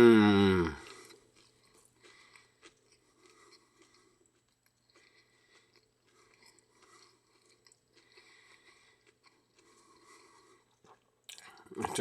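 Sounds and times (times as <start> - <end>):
chewing crispy food: 0.0 - 12.0.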